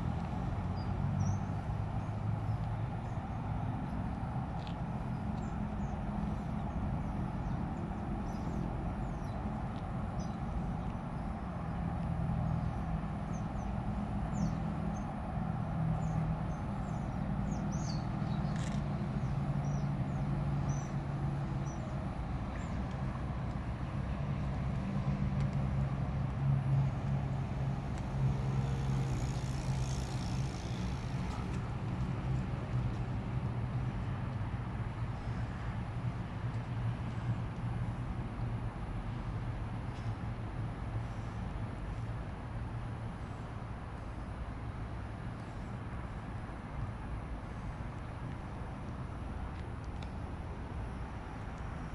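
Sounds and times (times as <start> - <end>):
distant road traffic hum: 0.0 - 51.9.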